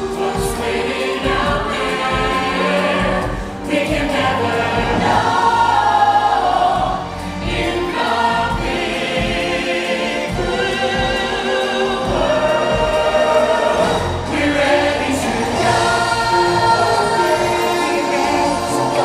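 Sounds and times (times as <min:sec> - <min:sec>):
choir singing with music: 0:00.0 - 0:19.0.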